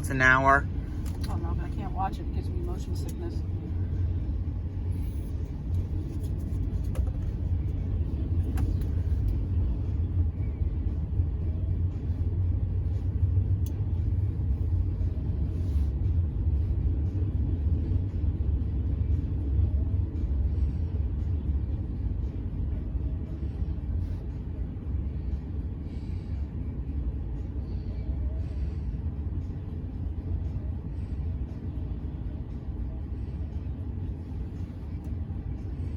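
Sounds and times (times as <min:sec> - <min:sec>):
vehicle rumble inside car: 0:00.0 - 0:35.9.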